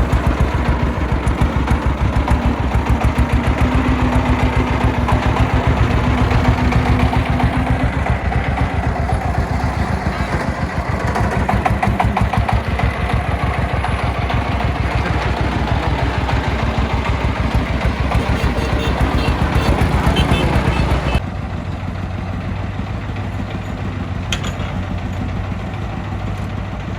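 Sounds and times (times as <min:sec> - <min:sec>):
diesel engine chugging: 0:00.0 - 0:26.9.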